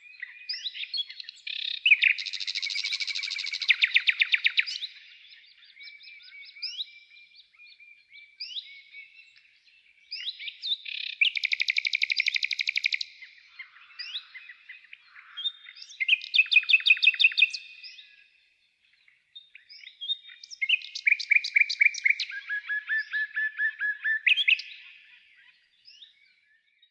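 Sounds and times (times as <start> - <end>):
bird trills: 0.0 - 7.2, 10.1 - 18.2, 19.5 - 26.2
songbirds singing: 0.0 - 26.9.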